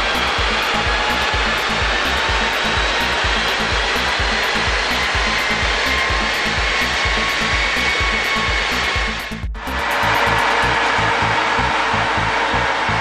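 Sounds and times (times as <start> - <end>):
cooling fan: 0.0 - 13.0
diesel engine running hard: 0.0 - 13.0
dynamometer rollers spinning: 0.0 - 13.0
music with steady beat: 0.0 - 13.0.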